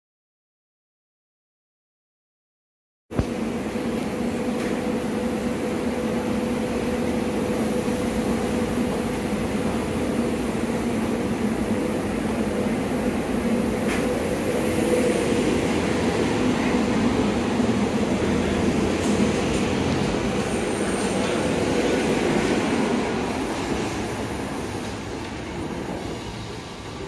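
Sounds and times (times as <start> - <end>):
electric train hum: 3.2 - 27.0.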